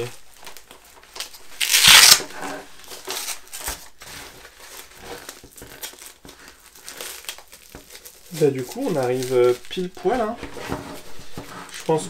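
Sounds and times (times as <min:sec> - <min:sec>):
cloth rustling against helmet: 0:00.0 - 0:12.0.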